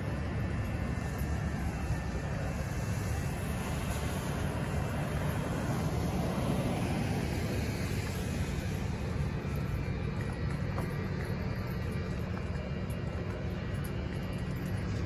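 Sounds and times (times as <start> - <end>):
traffic on a multi-lane road: 0.0 - 15.0.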